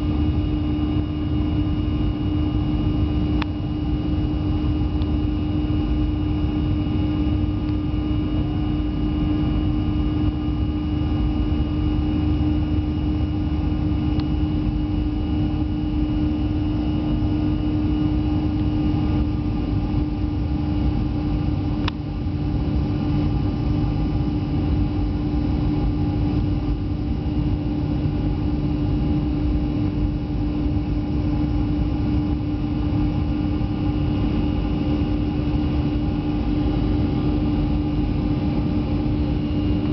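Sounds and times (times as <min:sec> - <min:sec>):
airliner engine drone: 0:00.0 - 0:39.9.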